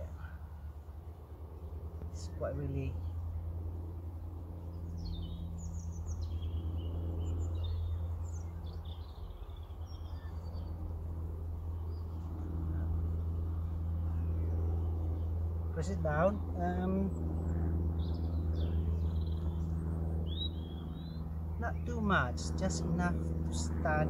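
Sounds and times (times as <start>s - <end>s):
birds chirping and twittering: 0.0s - 24.0s
steady low hum: 0.0s - 24.0s.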